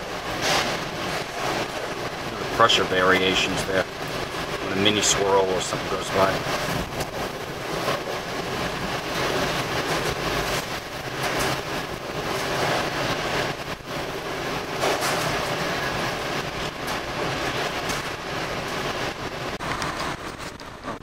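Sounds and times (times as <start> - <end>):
wind and rain beating on vehicle: 0.0 - 21.0.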